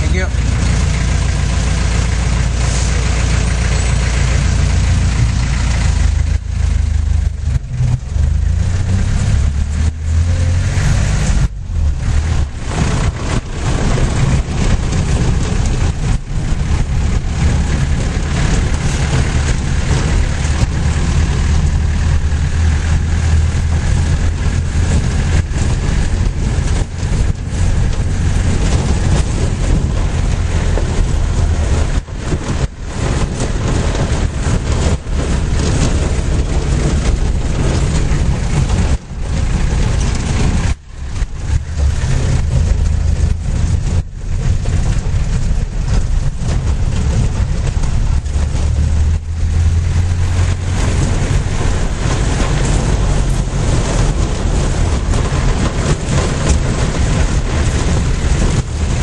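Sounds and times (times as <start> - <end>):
road and wind noise: 0.0 - 59.0
vehicle engine droning: 0.0 - 59.0.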